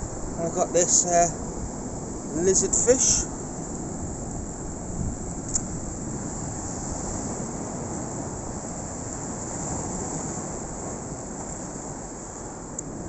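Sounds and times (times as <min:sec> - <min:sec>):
sea on rocky shoreline: 0:00.0 - 0:13.0
wind: 0:00.0 - 0:13.0.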